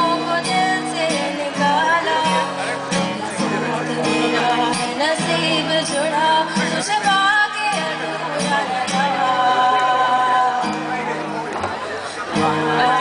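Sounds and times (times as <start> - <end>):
girl singing into microphone: 0.0 - 10.9, 12.4 - 13.0
acoustic guitar: 0.0 - 13.0.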